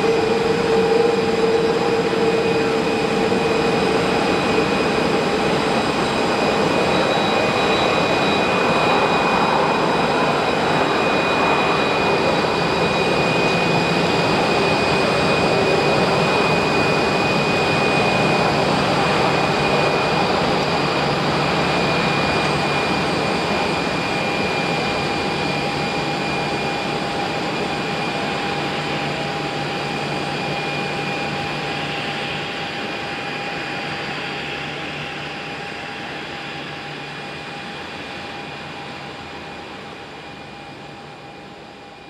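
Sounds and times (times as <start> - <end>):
jet engines idling: 0.0 - 42.0.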